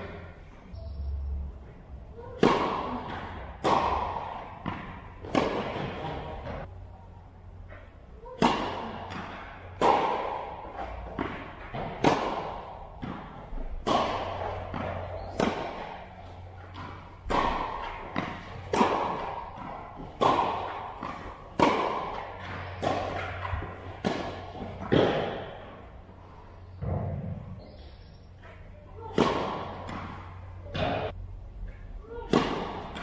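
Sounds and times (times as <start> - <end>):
tennis ball bouncing on court: 2.2 - 6.7, 8.2 - 31.2, 32.1 - 33.0
tennis racket hitting ball: 2.2 - 6.7, 7.8 - 27.5, 28.4 - 31.2, 32.1 - 33.0.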